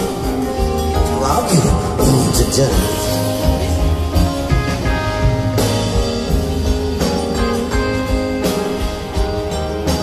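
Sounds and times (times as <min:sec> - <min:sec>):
live band playing slow song: 0:00.0 - 0:10.0.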